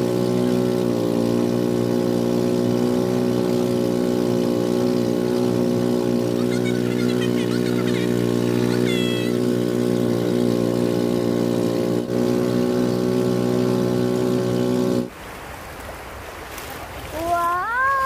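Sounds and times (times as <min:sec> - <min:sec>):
boat engine running: 0:00.0 - 0:15.3
water washing: 0:00.0 - 0:18.0.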